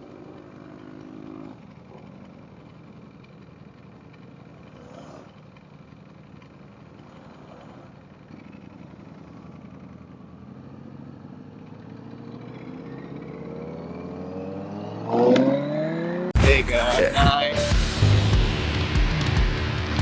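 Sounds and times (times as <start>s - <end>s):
motorcycle engine approaching: 0.0s - 16.4s, 17.4s - 20.0s.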